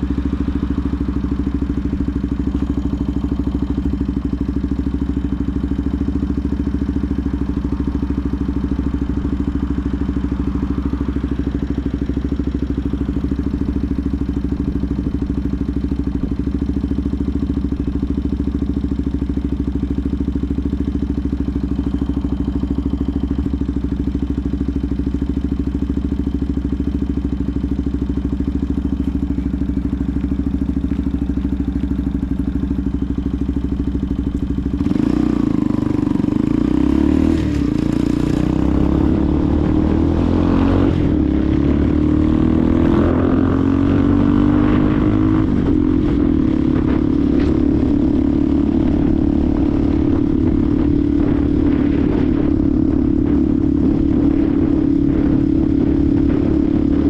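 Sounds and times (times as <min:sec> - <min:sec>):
motorcycle engine idling: 0:00.0 - 0:40.3, 0:40.9 - 0:57.0.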